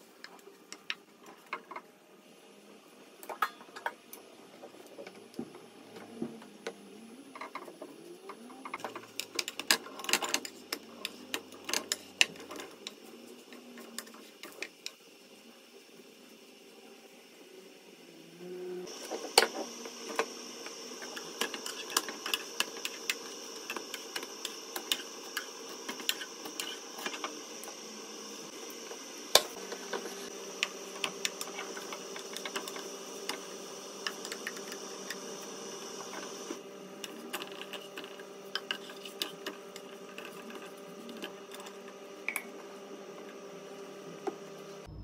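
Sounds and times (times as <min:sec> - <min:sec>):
kitchen hum: 0:00.0 - 0:45.0.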